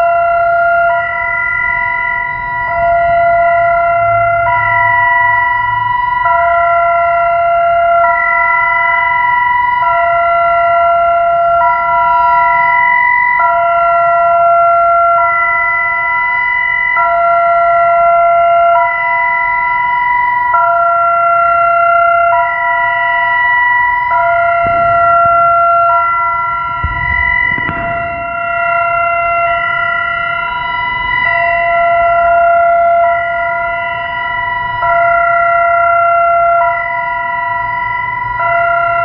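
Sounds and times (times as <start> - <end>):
two-tone warning siren: 0.0 - 39.0.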